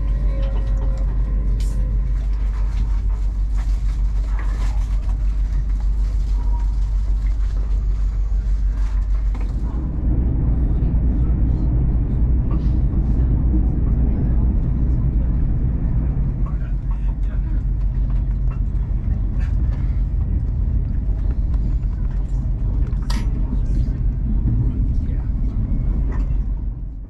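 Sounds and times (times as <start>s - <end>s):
train rumble and hum: 0.0s - 27.0s.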